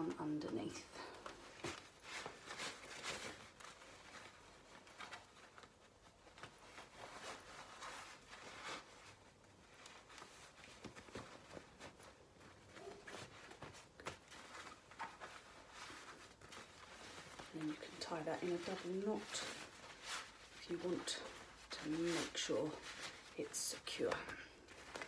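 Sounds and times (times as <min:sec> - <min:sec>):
fabric straps rustling: 0:00.0 - 0:25.0.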